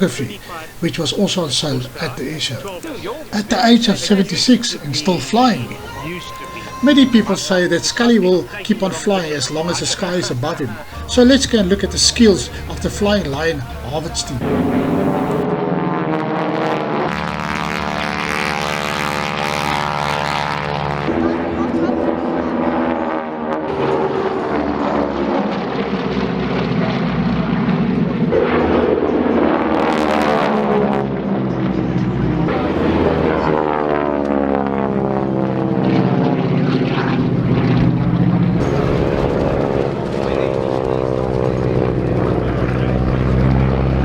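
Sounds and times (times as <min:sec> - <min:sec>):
propeller aircraft engines droning: 0:00.0 - 0:44.0.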